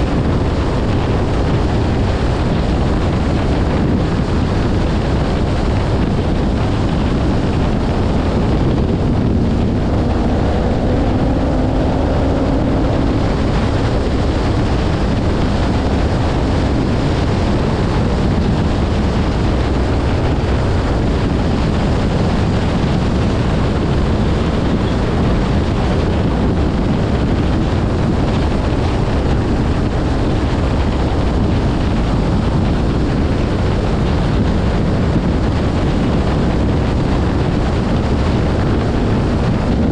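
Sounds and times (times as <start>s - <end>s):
faint engine hum: 0.0s - 39.9s
wind and road noise: 0.0s - 39.9s.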